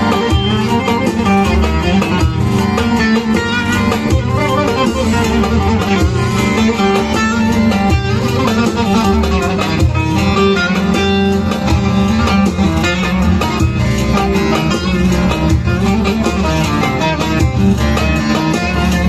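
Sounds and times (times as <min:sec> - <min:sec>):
plucked string folk music: 0:00.0 - 0:19.0.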